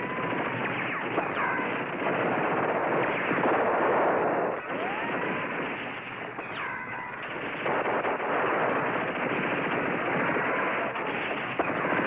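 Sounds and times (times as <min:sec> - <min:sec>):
sustained gunfire: 0:00.0 - 0:12.0.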